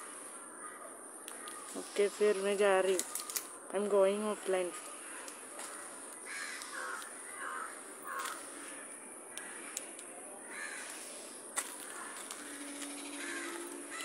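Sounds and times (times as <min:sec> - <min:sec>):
crows cawing: 0:00.0 - 0:01.9, 0:04.6 - 0:14.0
steady high hiss: 0:00.0 - 0:14.0.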